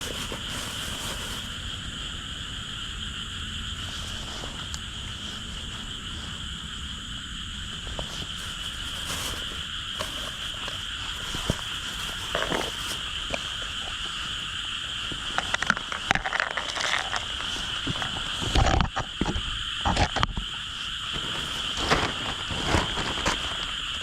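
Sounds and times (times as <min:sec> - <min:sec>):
frogs trilling chorus: 0:00.0 - 0:24.0.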